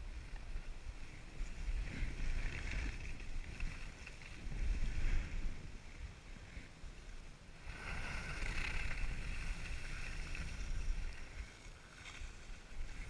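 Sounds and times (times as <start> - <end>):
wind rumble on microphone: 0.0 - 13.0
skis sliding on snow: 0.2 - 13.0.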